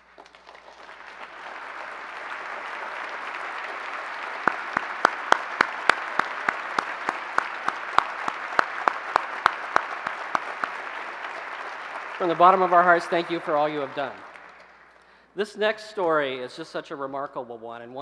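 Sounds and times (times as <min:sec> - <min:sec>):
audience applauding: 0:00.0 - 0:15.2
close hand claps: 0:00.0 - 0:15.2.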